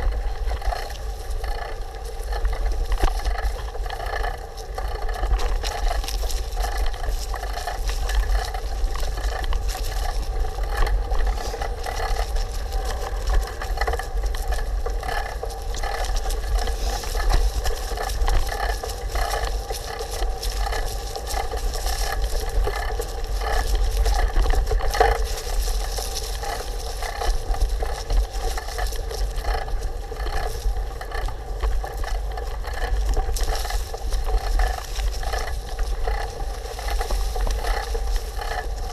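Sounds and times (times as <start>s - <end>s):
bicycle rattles over bumps: 0.0s - 38.9s
bicycle tyre noise on trail: 0.0s - 38.9s
wind rumble on microphone: 0.0s - 38.9s.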